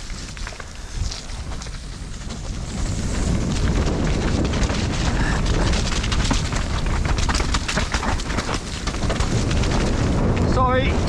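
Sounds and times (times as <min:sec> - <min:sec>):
bike clattering over bumps: 0:00.0 - 0:11.0
wind buffeting microphone: 0:00.0 - 0:11.0.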